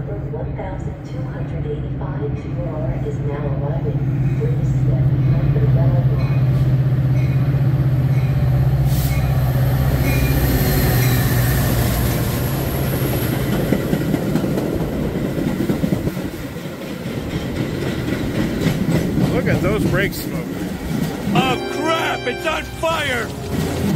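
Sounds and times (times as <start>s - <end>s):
diesel locomotive engine drone: 0.0s - 16.4s, 17.7s - 23.9s
train wheels rumbling and clattering: 2.0s - 21.4s, 23.3s - 23.9s.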